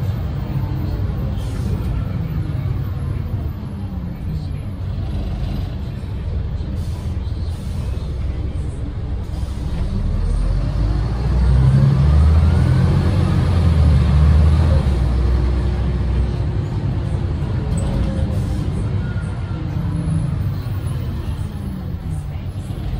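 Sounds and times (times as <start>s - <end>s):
bus diesel engine under load: 0.0s - 22.9s.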